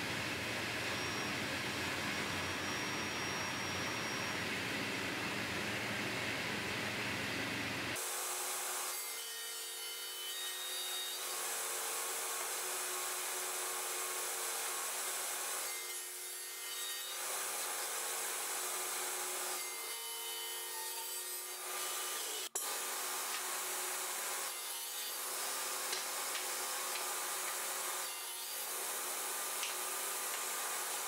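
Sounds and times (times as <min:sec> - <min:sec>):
table saw cutting board: 0:00.8 - 0:04.8, 0:08.0 - 0:31.0.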